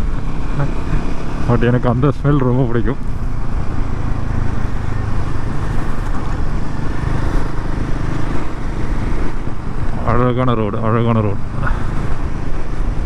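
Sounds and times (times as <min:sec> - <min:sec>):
motorcycle engine running: 0:00.0 - 0:13.0
road and wind rush: 0:00.0 - 0:13.0.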